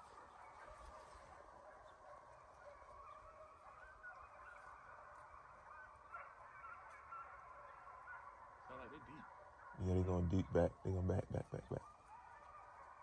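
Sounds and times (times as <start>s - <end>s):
distant hounds baying: 0.0s - 13.0s.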